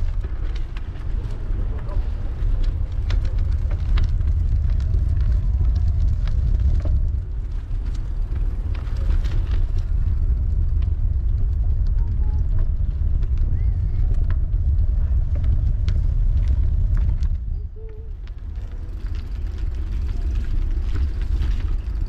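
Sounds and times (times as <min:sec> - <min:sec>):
bike tyres rumbling: 0:00.0 - 0:22.0
small clicks and ticks: 0:00.0 - 0:22.0.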